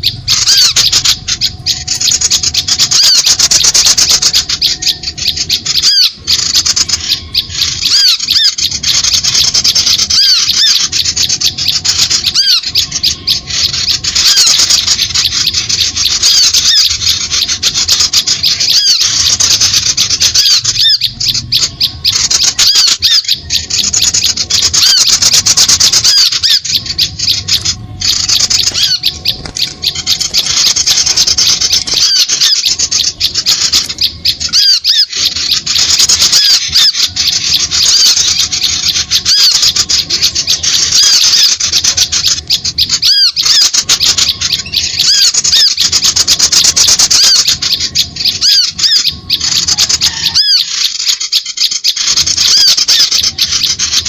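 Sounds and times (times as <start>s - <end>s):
small birds chattering and chirping: 0.0s - 54.0s.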